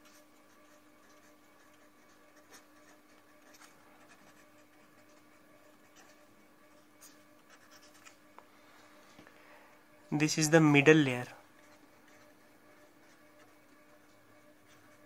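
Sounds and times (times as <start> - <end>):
pen scratching on paper: 0.0 - 8.3, 10.2 - 15.0
steady faint hum: 0.0 - 15.0.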